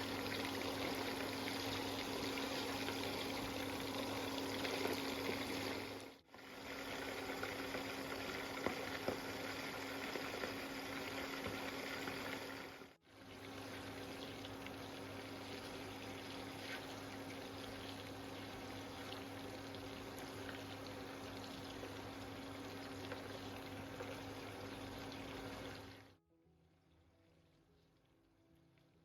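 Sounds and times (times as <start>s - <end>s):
liquid bubbling in a pan: 0.0s - 26.2s.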